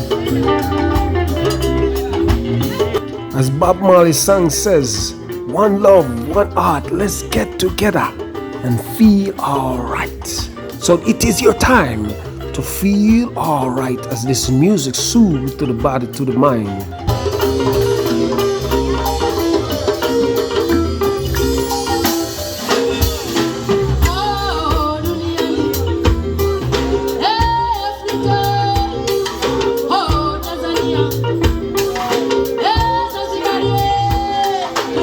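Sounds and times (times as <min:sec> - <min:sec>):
upbeat band music: 0:00.0 - 0:35.0.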